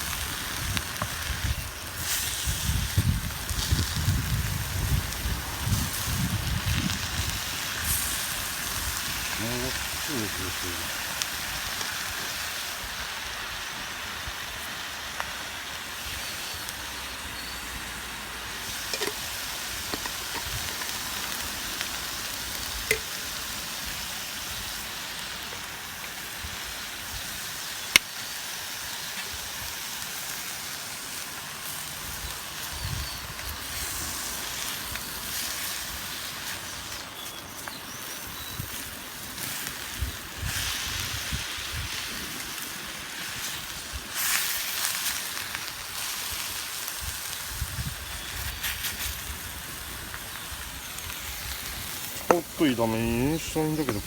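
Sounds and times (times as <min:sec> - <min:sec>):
campfire pops and crackles: 0:00.0 - 0:54.0
food sizzling in frying pan: 0:00.0 - 0:54.0.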